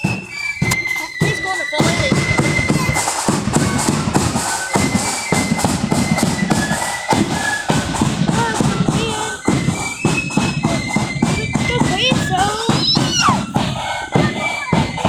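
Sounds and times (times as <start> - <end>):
bass and snare drums: 0.0 - 15.0
high flute melody: 0.0 - 15.0.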